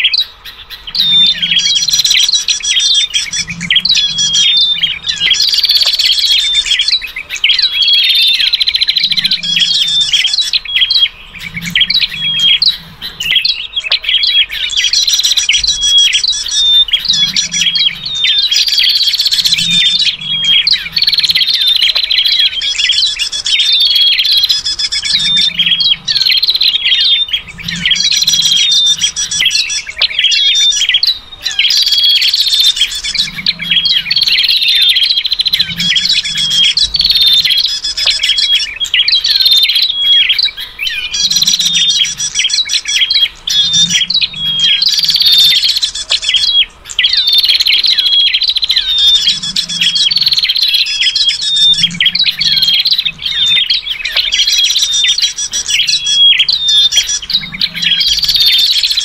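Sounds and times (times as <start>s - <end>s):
birds chirping and whistling: 0.0s - 59.0s.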